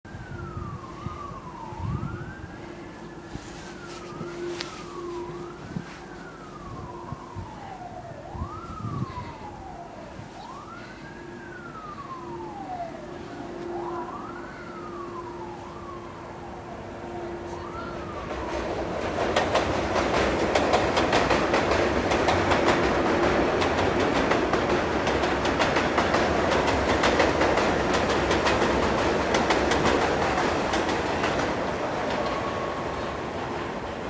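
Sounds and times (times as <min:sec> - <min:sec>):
siren wailing: 0:00.1 - 0:34.0.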